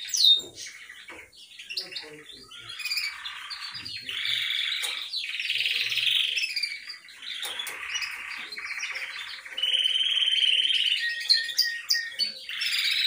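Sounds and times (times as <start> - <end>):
canary singing trills and chirps: 0.0 - 13.0.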